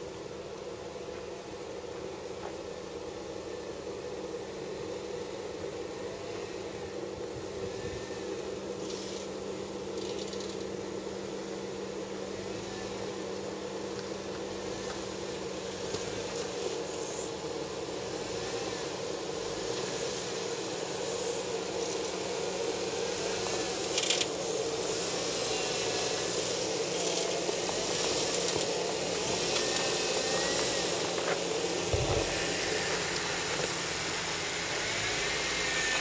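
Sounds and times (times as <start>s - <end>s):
off-road vehicle engine crawling: 0.0s - 36.0s.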